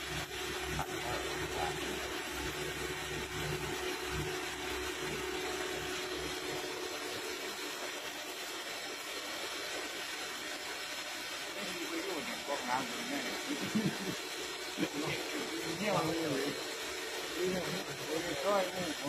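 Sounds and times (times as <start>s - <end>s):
coolant spraying hiss: 0.0s - 19.0s
steady machine hum: 0.0s - 19.0s.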